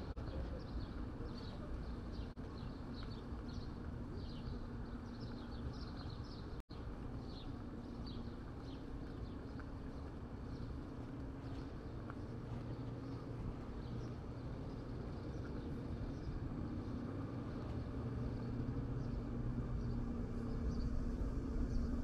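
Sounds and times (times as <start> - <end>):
city traffic rumble: 0.0 - 22.0
faint steady hum: 0.0 - 22.0
small birds chirping: 0.2 - 22.0.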